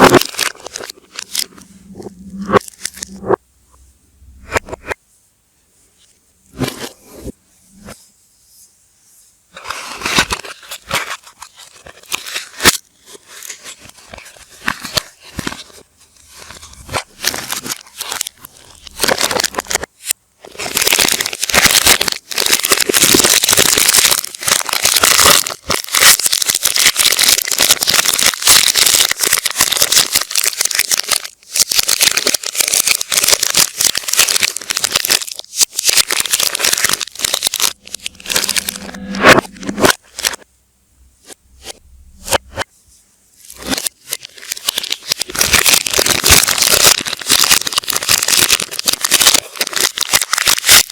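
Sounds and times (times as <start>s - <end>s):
reversed wrapper crinkling: 0.0s - 3.3s, 9.6s - 40.4s, 43.4s - 50.9s.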